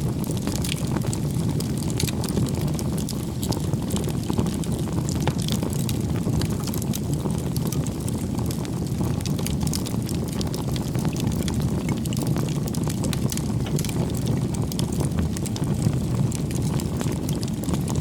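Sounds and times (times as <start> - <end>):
burning wood crackling: 0.0 - 18.0
flames roaring: 0.0 - 18.0.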